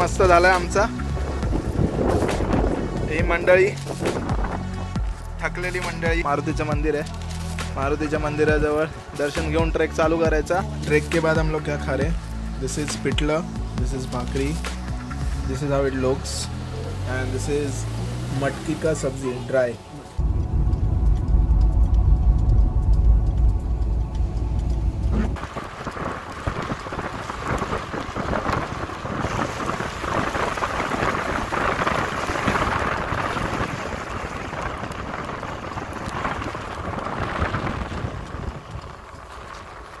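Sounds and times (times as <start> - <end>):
car engine hum: 0.0 - 40.0
rain and wet road noise: 0.0 - 40.0.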